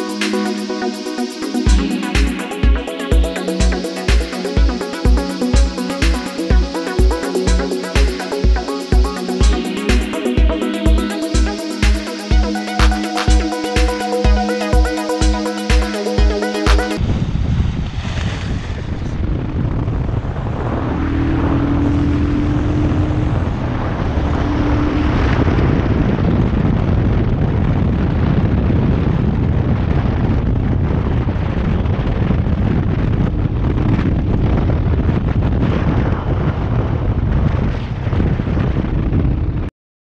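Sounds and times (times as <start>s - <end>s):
wind rushing over microphone: 0.0s - 39.7s.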